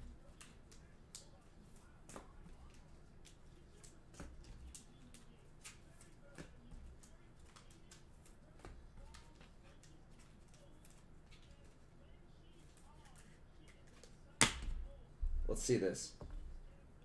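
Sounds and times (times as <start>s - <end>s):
trading cards clicking and rustling: 0.0s - 11.8s, 12.4s - 14.8s.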